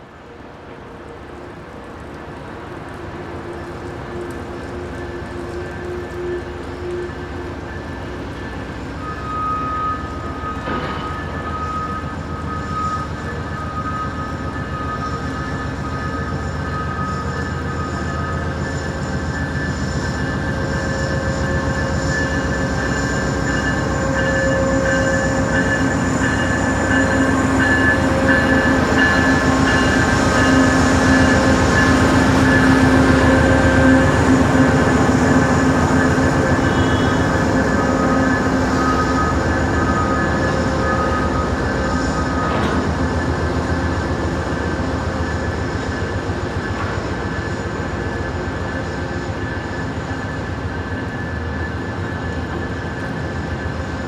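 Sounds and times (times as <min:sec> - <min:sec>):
train wheels rumbling: 0:00.0 - 0:54.0
metallic wheel squeal: 0:05.2 - 0:53.9.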